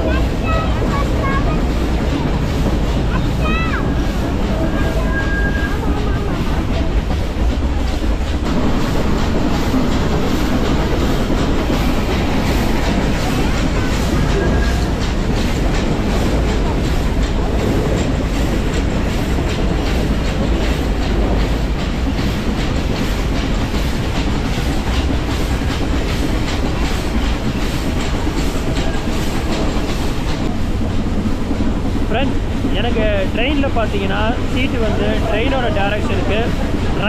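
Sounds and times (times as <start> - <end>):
train rumble: 0.0 - 37.0.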